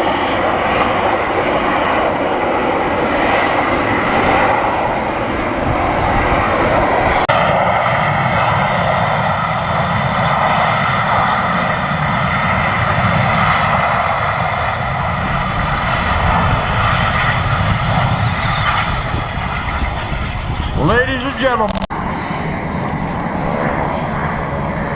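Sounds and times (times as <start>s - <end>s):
jet engine roaring with whine: 0.0s - 24.9s.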